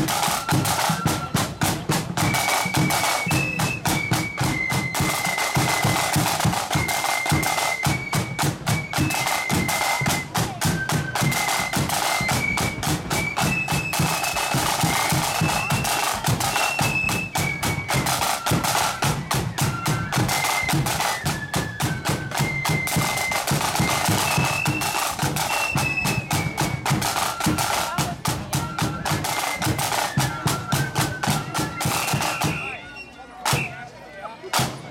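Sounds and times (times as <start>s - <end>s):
snare drum rolls: 0.0s - 32.8s, 33.5s - 33.8s, 34.6s - 34.9s
flutes playing melody: 0.0s - 34.9s.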